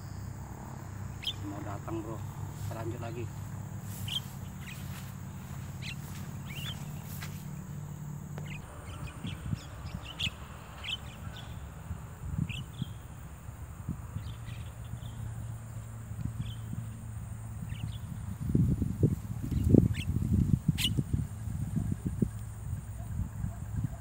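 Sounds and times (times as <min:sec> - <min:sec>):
steady low hum: 0:00.0 - 0:23.4
birds chirping and calling: 0:01.0 - 0:22.2.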